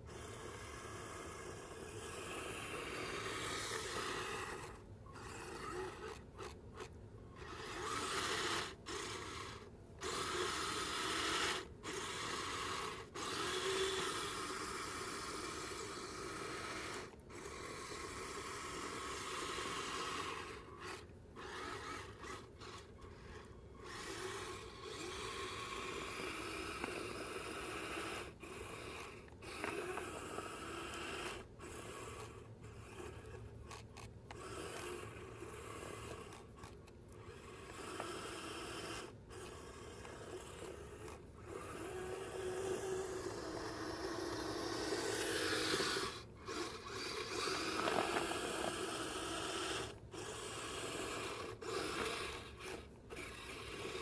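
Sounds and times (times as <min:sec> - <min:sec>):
electric motor and gears whining: 0:00.0 - 0:54.0.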